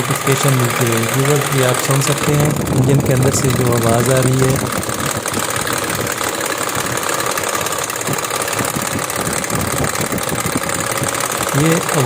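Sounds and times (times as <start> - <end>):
car engine knocking: 0.0 - 12.0.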